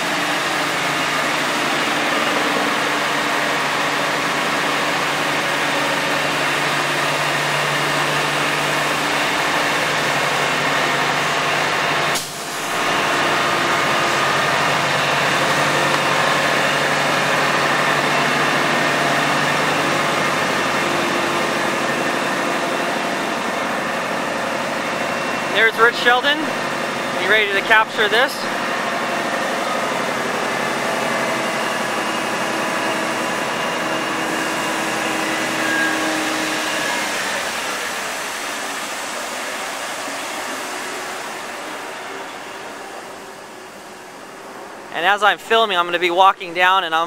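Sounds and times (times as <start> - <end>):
crane engine running: 0.0 - 47.0.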